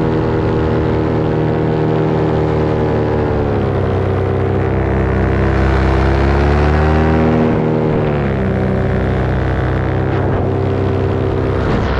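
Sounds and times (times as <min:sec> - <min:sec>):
paramotor engine droning: 0:00.0 - 0:11.9.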